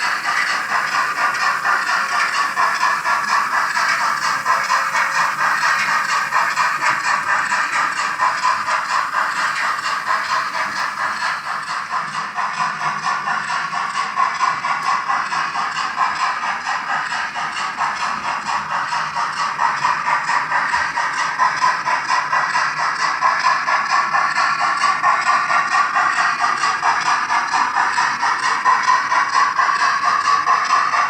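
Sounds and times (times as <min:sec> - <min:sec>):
model steam locomotive chuffing: 0:00.0 - 0:31.0
model train clattering on track: 0:00.0 - 0:31.0.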